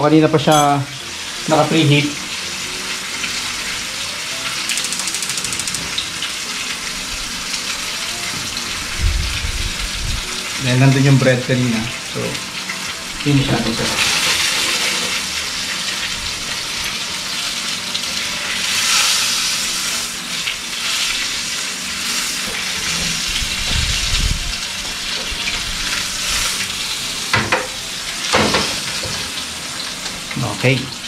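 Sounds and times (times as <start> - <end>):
fish sizzling in frying pan: 0.0 - 31.0.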